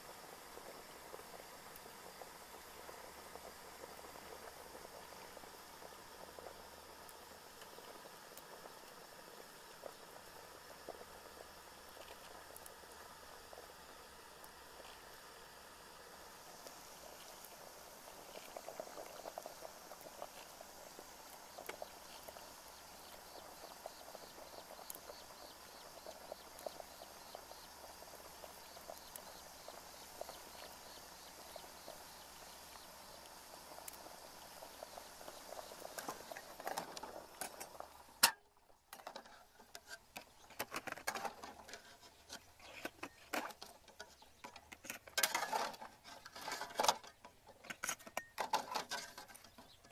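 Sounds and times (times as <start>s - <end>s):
water boiling in a pot: 0.0s - 49.9s.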